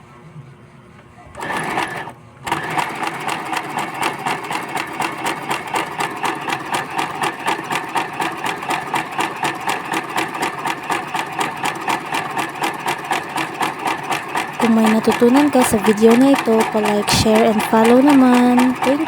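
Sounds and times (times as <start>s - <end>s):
electric sewing machine stitching: 1.3s - 19.0s.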